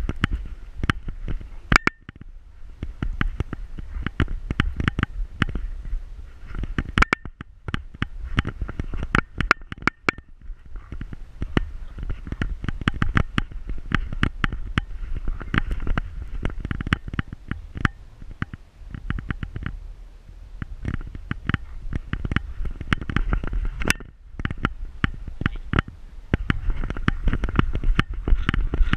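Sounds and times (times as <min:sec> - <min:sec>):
rubbing noise: 0:00.0 - 0:19.8, 0:20.6 - 0:28.9
steady low rumble: 0:00.0 - 0:28.9.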